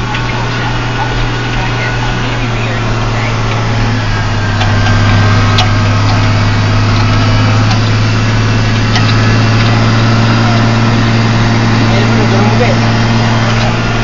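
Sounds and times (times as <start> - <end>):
tractor engine droning: 0.0 - 14.0.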